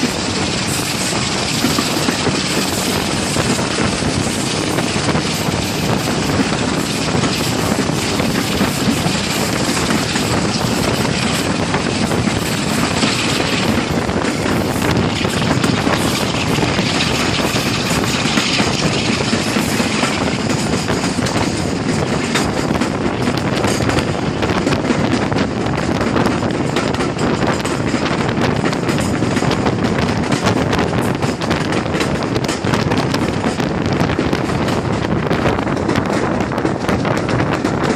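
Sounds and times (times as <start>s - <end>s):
diesel locomotive engine running: 0.0s - 37.9s
wind buffeting microphone: 0.0s - 37.9s.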